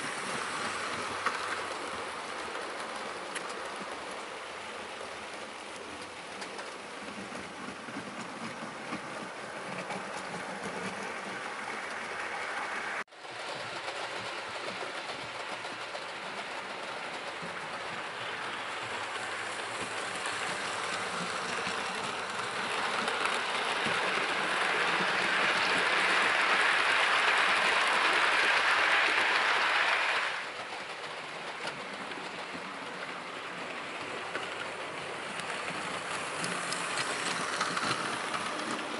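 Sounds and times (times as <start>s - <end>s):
model train wheels rushing on rail: 0.0s - 38.9s.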